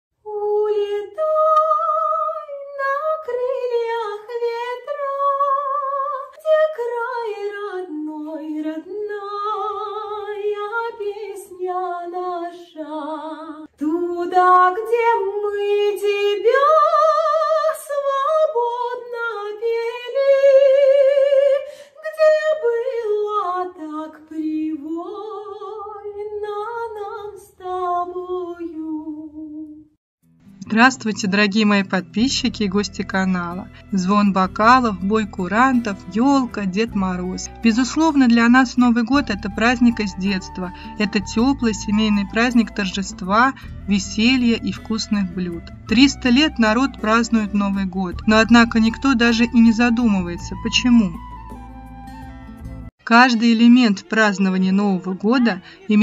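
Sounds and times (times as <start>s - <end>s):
woman singing: 0.2s - 29.9s, 30.7s - 51.2s, 54.8s - 56.0s.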